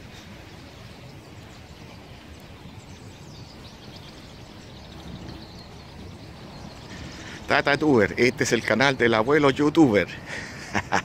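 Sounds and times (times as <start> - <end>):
faint bird chirps: 0.0 - 9.7.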